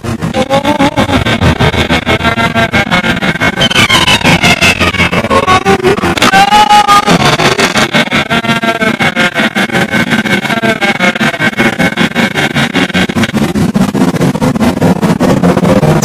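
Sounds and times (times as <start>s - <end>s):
stuttering nursery rhyme music: 0.0s - 16.0s.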